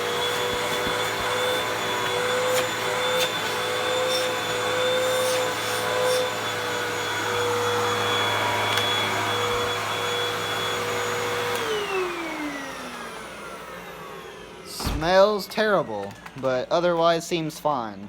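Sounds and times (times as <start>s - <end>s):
vacuum cleaner motor whine: 0.0s - 17.2s.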